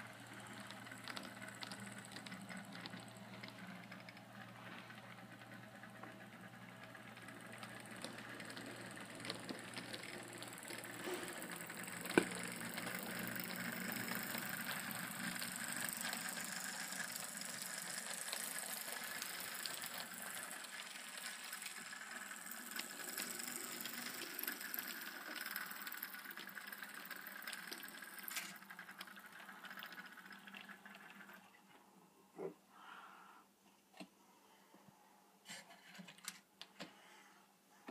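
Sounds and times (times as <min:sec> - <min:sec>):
model train wheels clicking on track: 0:00.0 - 0:31.5.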